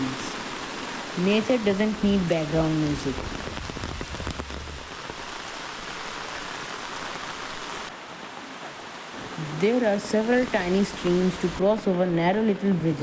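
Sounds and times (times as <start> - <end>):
rain on leaves: 0.0 - 13.0.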